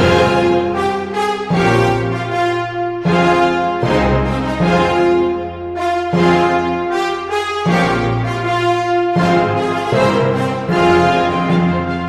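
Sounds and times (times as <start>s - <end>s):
instrumental music with brass chords: 0.0s - 12.0s.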